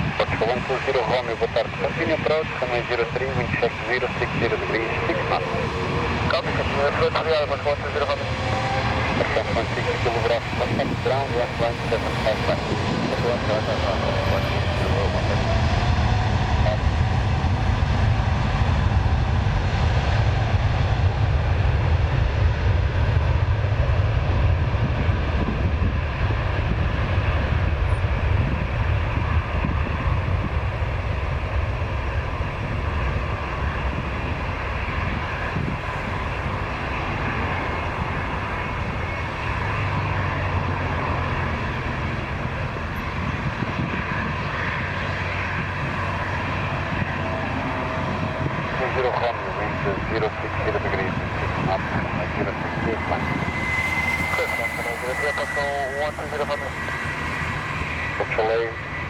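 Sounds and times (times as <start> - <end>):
jet airliner taking off: 0.0 - 59.0.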